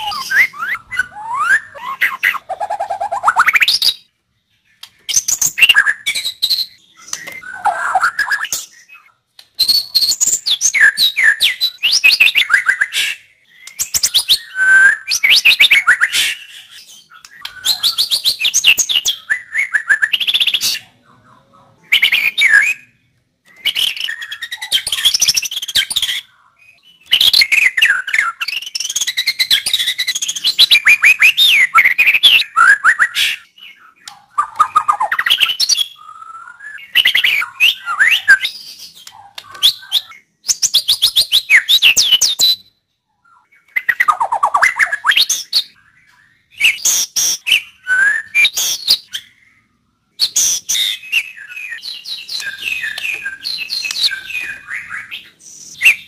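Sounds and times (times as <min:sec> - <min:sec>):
songbird singing whistles and trills: 0:00.0 - 0:21.0, 0:21.8 - 0:56.0.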